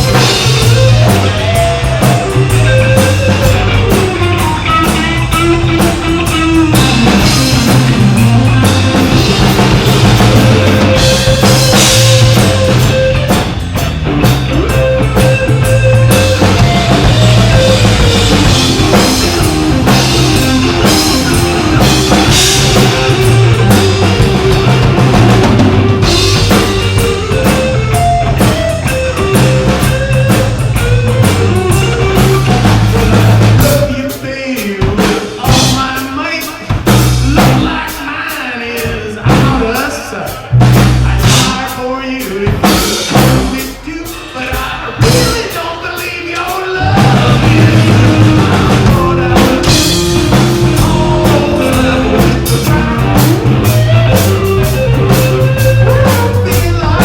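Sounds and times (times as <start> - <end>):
bass guitar: 0.0 - 57.0
drum kit: 0.0 - 57.0
guitar: 0.0 - 57.0.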